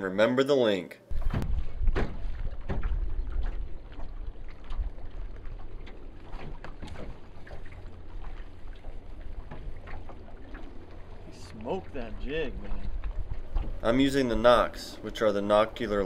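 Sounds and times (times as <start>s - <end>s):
waves slapping against hull: 1.1s - 16.0s.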